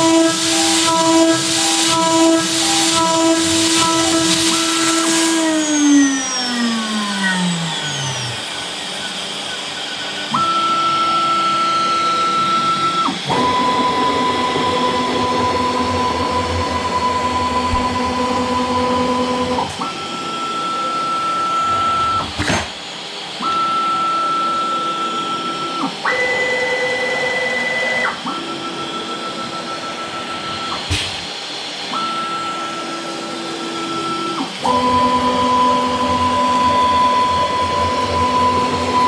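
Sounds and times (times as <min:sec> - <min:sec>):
cnc router whining: 0:00.0 - 0:39.0.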